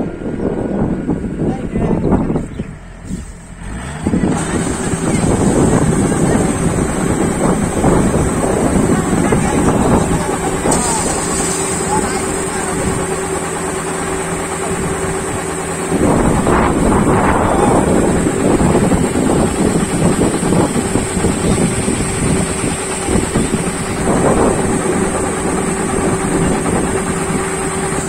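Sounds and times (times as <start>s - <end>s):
harvester engine humming: 0.0s - 28.0s
rough mechanical noise: 0.0s - 28.0s.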